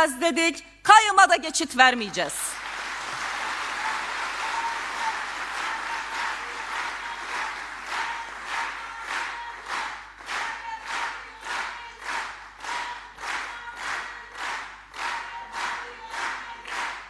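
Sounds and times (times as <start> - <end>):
rhythmic clapping in unison: 2.4 - 17.0
audience applauding: 2.5 - 17.0.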